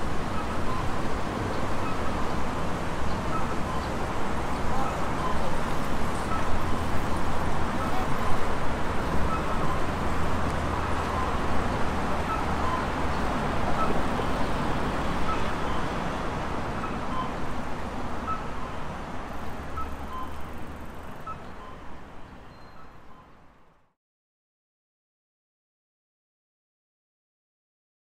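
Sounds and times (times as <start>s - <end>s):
city road traffic: 0.0s - 23.9s.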